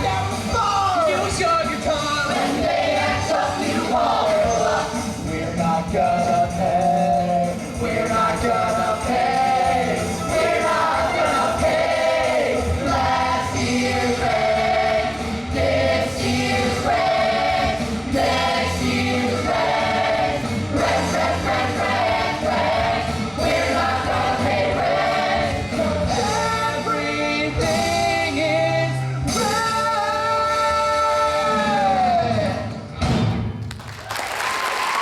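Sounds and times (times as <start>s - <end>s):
musical accompaniment: 0.0s - 34.0s.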